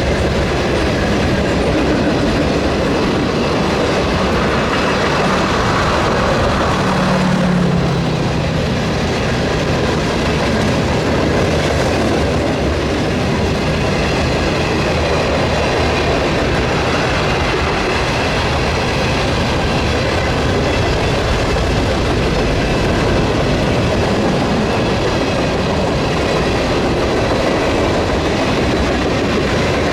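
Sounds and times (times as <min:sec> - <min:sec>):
low drone: 0:00.0 - 0:27.2
train wheels rumbling on rails: 0:00.0 - 0:29.9.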